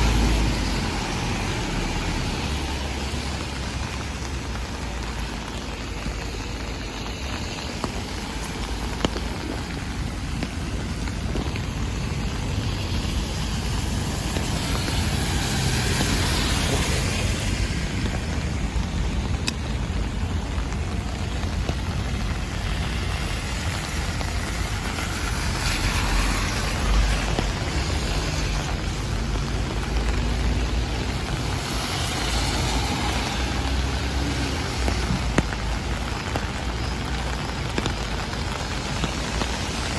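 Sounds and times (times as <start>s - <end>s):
steady rain on street: 0.0s - 39.9s
tyres hissing on wet road: 0.0s - 39.9s.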